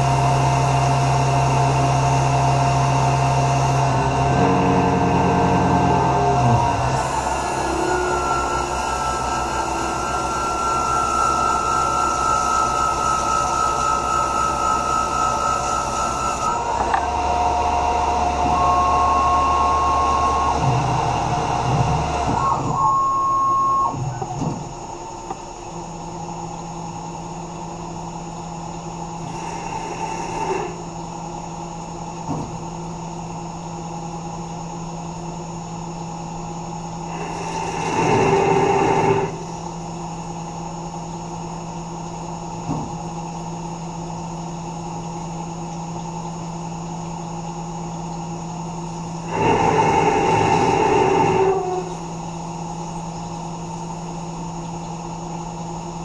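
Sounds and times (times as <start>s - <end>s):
cnc mill spindle whine: 0.0s - 56.0s.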